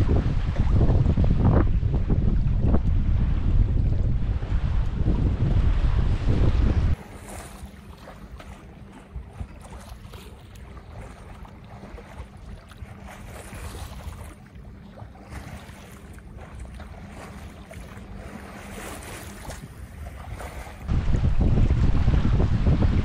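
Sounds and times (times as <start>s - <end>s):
water rushing along a hull: 0.0s - 23.0s
wind buffeting microphone: 0.0s - 23.0s.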